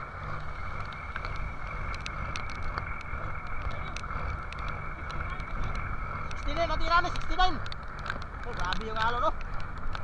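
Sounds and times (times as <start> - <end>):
boat engine running: 0.0 - 10.0
rough sea: 0.0 - 10.0
wind: 0.0 - 10.0.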